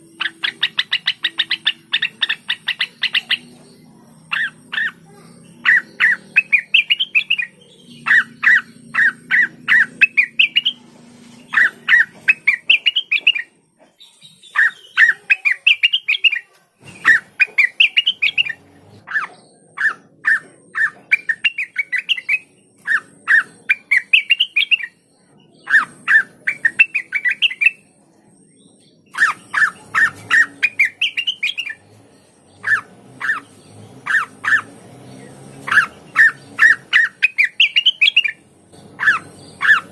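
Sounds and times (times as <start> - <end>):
bird singing rapid upward notes: 0.0 - 39.9.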